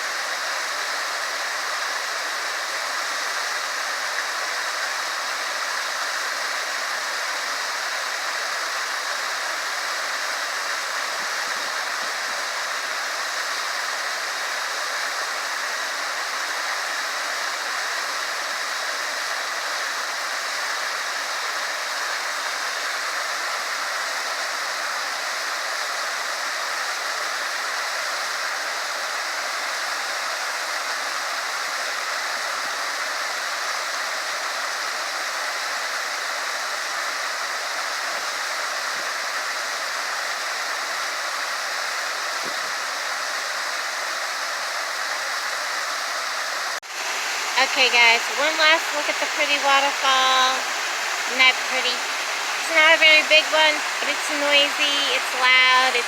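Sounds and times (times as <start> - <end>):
small waterfall pouring: 0.0 - 56.0.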